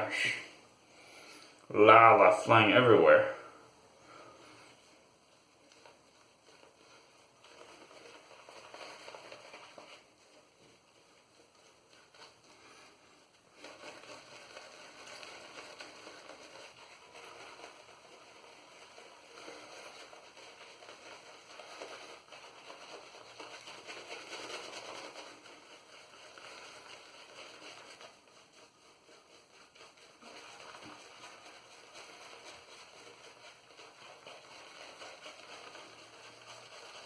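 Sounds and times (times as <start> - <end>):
shaving brush swishing lather: 0.0 - 37.0.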